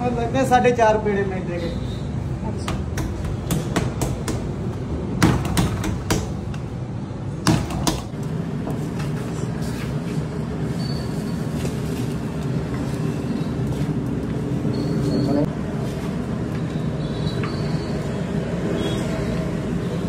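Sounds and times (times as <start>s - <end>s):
low rumble of busy stall: 0.0s - 20.0s.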